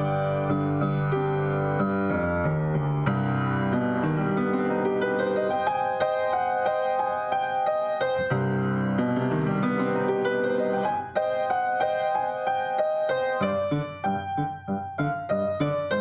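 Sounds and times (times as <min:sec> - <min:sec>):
upright piano playing: 0:00.0 - 0:16.0.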